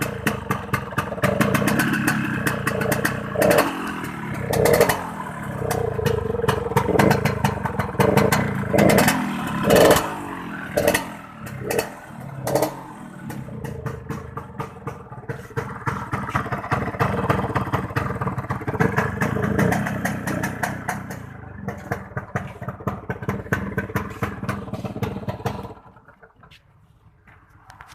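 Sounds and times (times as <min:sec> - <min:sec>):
two-stroke motorcycle engine rattling: 0:00.0 - 0:27.9.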